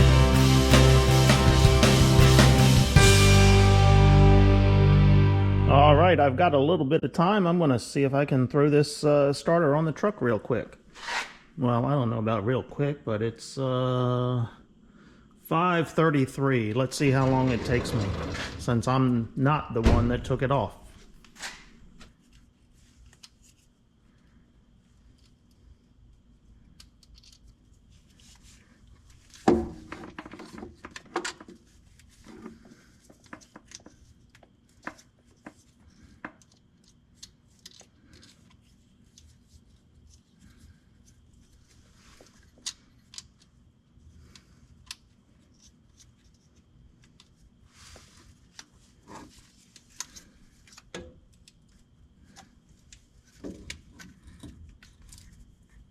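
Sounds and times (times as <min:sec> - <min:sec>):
faint steady hum: 0:05.8 - 0:55.9.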